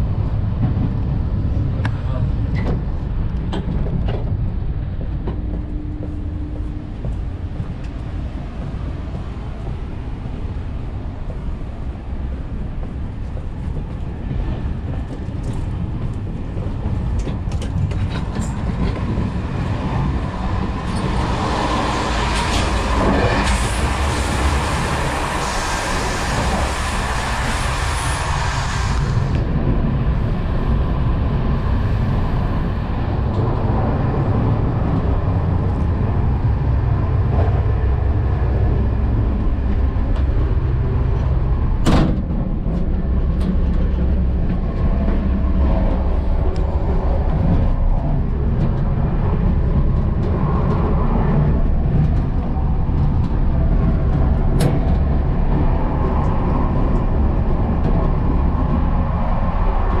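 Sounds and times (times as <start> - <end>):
train carriage rumble and rattle: 0.0 - 60.0.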